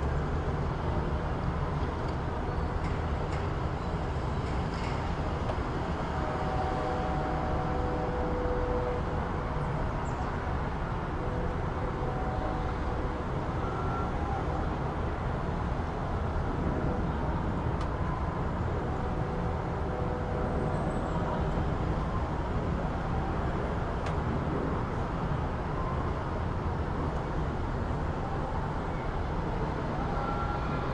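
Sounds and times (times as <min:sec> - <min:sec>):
traffic noise: 0:00.0 - 0:30.9.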